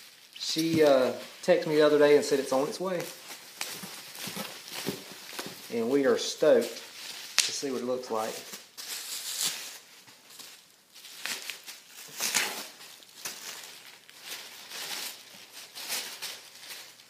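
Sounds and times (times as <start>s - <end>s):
wrapping rustling and crinkling: 0.0s - 17.0s.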